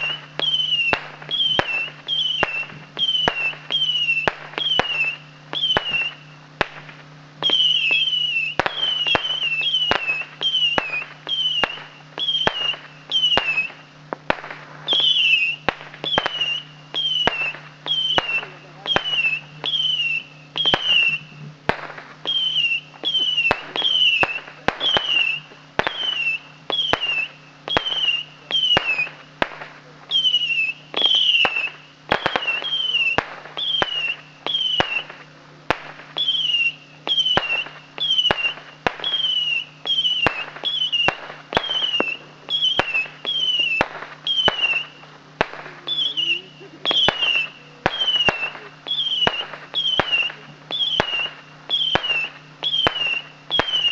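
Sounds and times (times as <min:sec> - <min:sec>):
firecracker reports: 0:00.0 - 0:53.9
firework whistles: 0:00.0 - 0:53.9.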